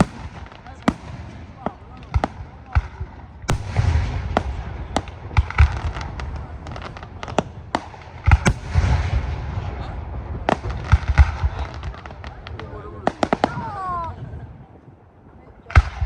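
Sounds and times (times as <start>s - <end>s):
fireworks crackling: 0.0s - 14.2s
fireworks bursting with bangs: 0.0s - 14.4s.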